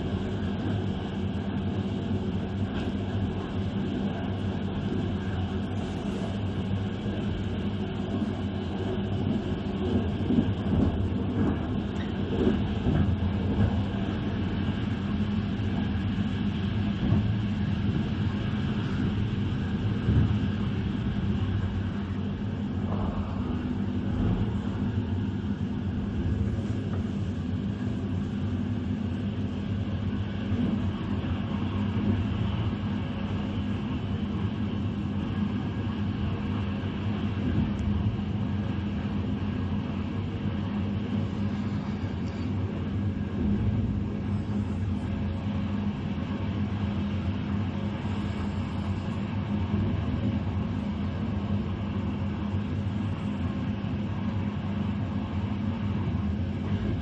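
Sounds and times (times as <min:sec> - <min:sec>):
train wheels rumbling on track: 0:00.0 - 0:53.6.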